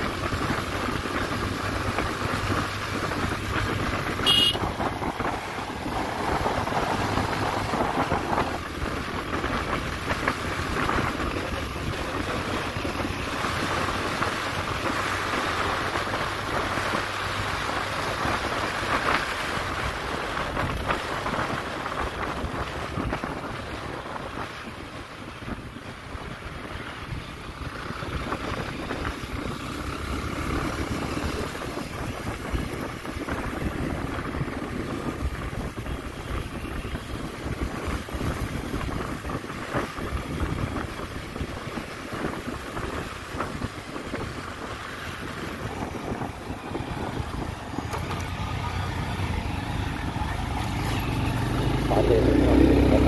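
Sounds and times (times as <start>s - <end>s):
vehicle engine and road noise: 0.0s - 53.0s
wind buffeting microphone: 0.0s - 53.0s.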